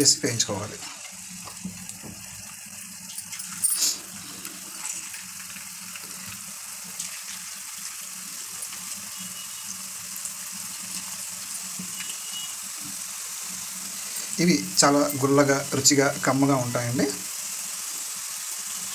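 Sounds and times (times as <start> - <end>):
dough sizzling in hot oil: 0.0 - 18.9.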